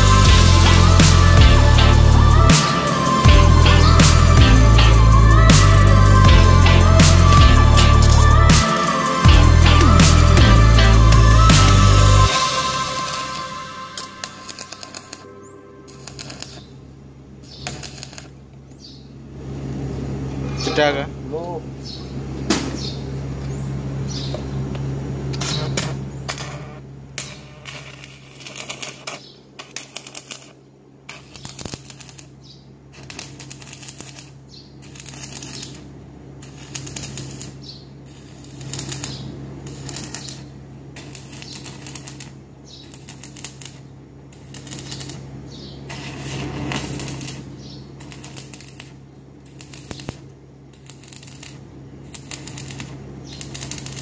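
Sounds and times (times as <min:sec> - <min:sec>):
welding arc crackling: 0:00.0 - 0:18.6, 0:25.3 - 0:54.0
steady low hum: 0:00.0 - 0:54.0.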